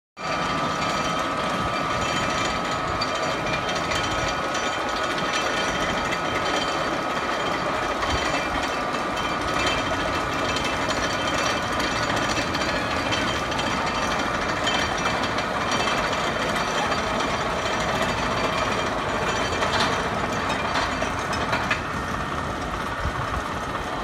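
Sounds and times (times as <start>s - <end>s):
roller coaster clattering: 0.2s - 24.0s
thin steady whine: 0.2s - 24.0s.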